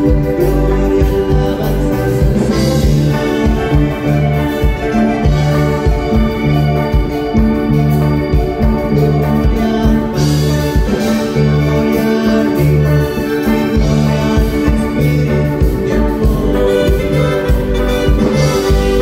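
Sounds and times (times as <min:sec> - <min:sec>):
electronic organ keyboard: 0:00.0 - 0:19.0
heavy repeating bass notes: 0:00.0 - 0:19.0
steady drum beat: 0:00.0 - 0:19.0.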